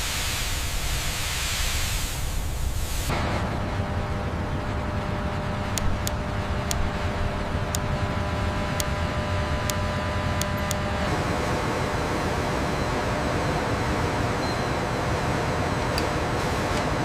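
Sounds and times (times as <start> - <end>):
industrial machinery rumble: 0.0 - 17.0.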